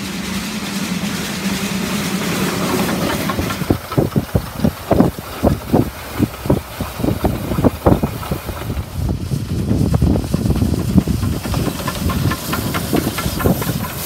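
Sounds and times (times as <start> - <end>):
locomotive exhaust chuffs: 0.0 - 14.0
steam locomotive rumble: 0.0 - 14.0.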